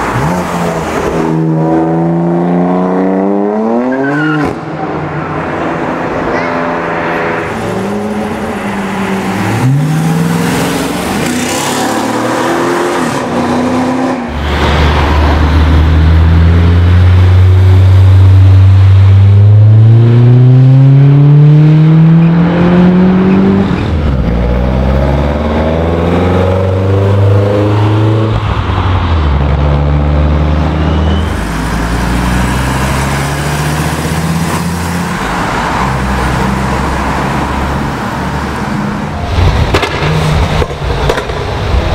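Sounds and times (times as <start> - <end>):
sports cars accelerating: 0.0 - 41.9.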